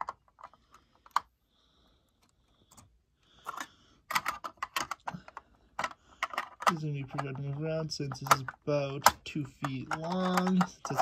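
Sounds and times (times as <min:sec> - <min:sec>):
plastic pieces clicking and scraping: 0:00.0 - 0:01.3, 0:02.2 - 0:11.0.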